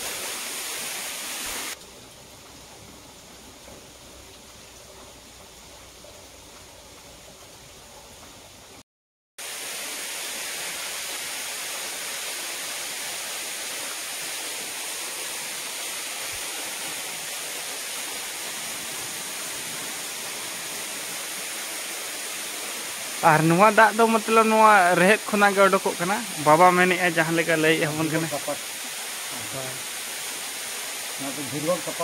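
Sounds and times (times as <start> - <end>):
rushing hiss of flowing water: 0.0 - 8.8, 9.4 - 32.0.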